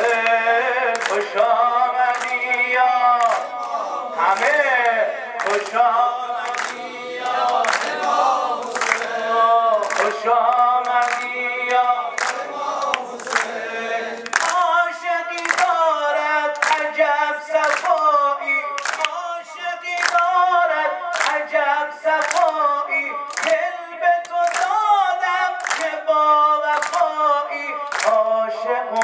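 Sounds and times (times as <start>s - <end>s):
crowd clapping in time: 0.0s - 29.0s
devotional singing: 0.0s - 29.0s.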